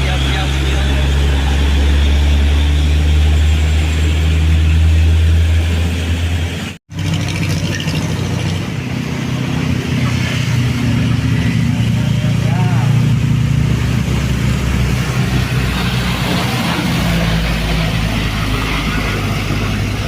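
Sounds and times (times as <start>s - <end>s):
truck diesel engine droning: 0.0s - 20.0s.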